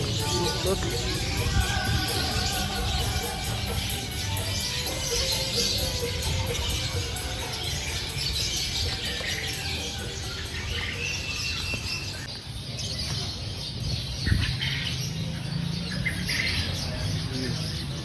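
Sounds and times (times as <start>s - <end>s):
songbirds chirping and twittering: 0.0s - 18.0s.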